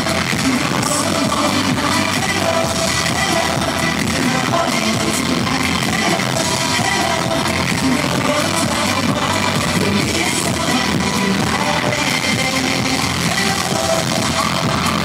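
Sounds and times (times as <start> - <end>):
live pop concert music with singing: 0.0 - 15.0.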